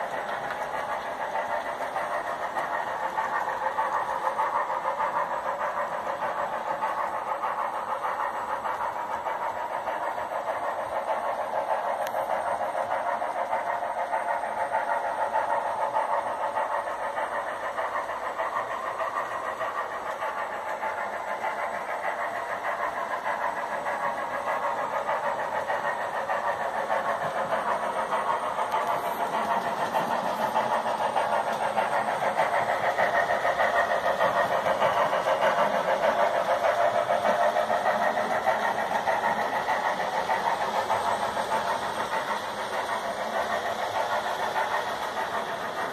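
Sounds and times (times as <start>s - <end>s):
model train motors whirring: 0.0s - 45.9s
wheels rolling on rail: 0.0s - 45.9s.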